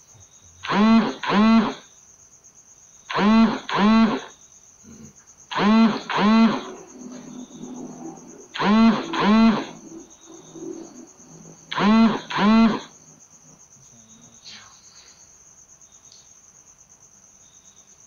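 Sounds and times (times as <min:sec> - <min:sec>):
high insect trill: 0:00.0 - 0:18.0.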